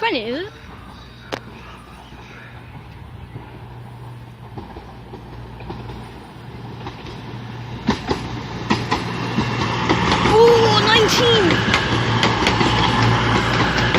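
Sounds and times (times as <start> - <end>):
diesel train engine hum: 0.0 - 13.9
train wheels clicking over rail joints: 0.0 - 13.9.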